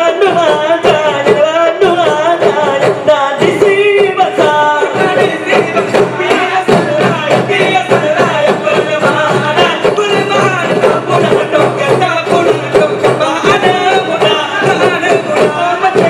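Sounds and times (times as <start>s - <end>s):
frame drums beating: 0.0s - 16.0s
men singing: 0.0s - 16.0s.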